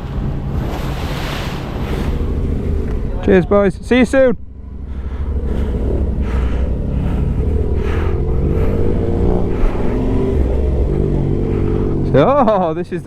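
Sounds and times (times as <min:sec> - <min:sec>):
motorcycle engine accelerating: 0:01.8 - 0:13.0.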